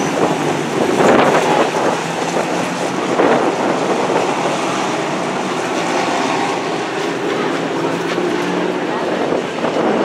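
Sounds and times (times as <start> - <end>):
racing truck engines droning: 0.0 - 10.0.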